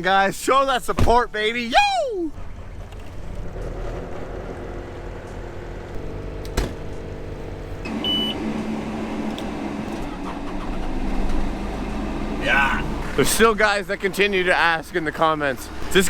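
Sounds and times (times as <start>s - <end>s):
engine running: 2.3s - 16.0s.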